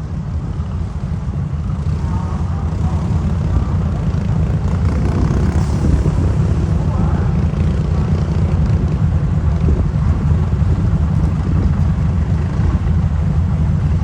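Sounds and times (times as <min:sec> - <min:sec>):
truck engine running loud: 0:00.0 - 0:14.0.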